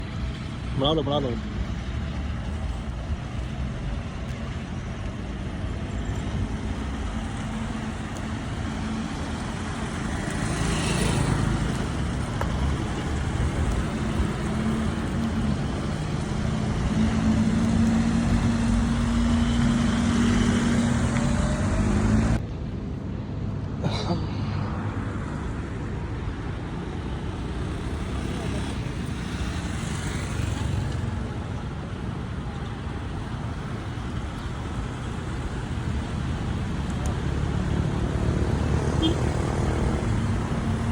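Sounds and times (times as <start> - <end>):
car engines in traffic: 0.0 - 40.9.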